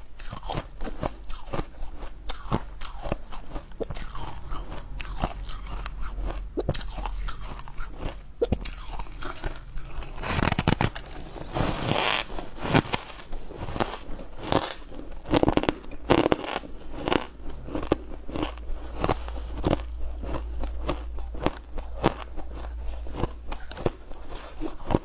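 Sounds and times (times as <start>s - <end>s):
biting and crunching frozen blocks: 0.2s - 25.0s.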